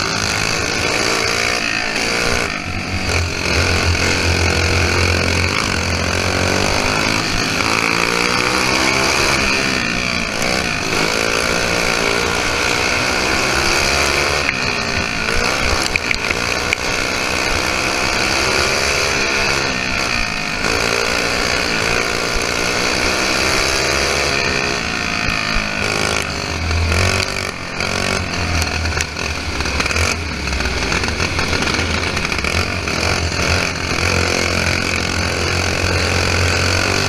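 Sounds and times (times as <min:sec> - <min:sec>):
go-kart engine running hard: 0:00.0 - 0:37.0.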